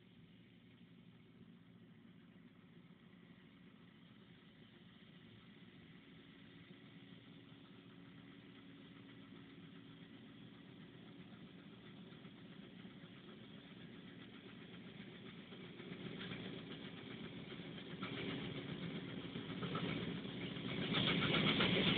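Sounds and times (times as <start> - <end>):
distant tractor diesel engine: 0.1 - 21.9.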